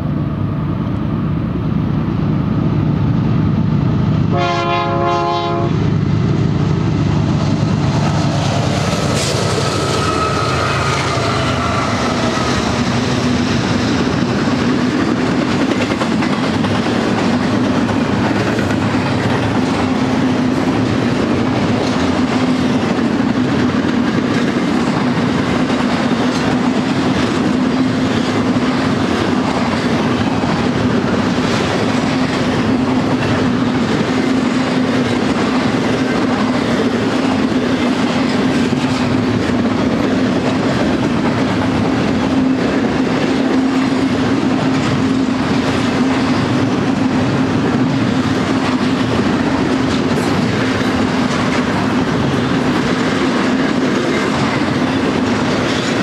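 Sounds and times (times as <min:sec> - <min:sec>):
train wheels clattering over rails: 0:06.6 - 0:56.0.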